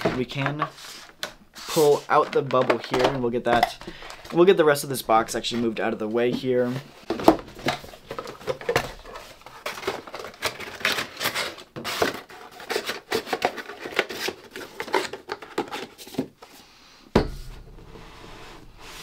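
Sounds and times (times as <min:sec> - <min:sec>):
cardboard and plastic rustling: 0:00.0 - 0:16.6.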